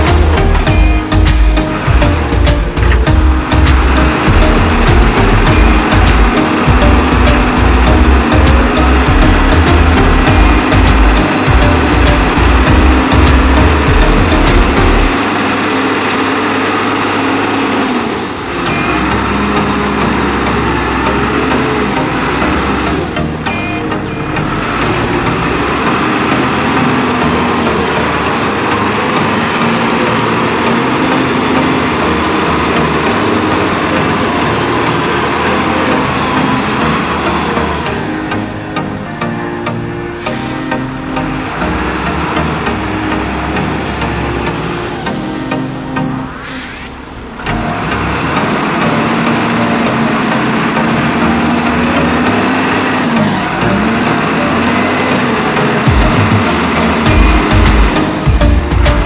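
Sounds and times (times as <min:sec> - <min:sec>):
wheel loader diesel engine running: 0:00.0 - 0:59.0.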